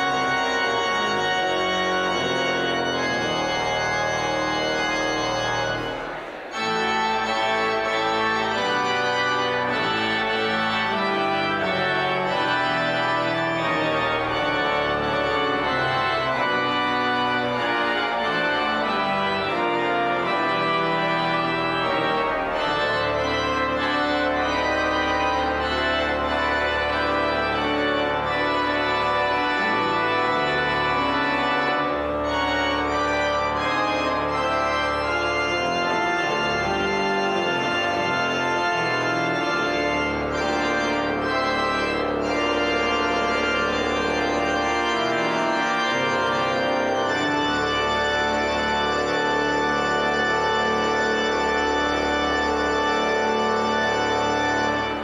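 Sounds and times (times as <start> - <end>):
church organ chords: 0.0 - 55.0.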